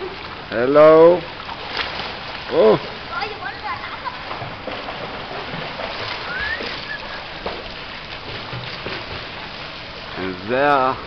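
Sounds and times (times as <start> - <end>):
children splashing in pool: 1.0 - 10.2.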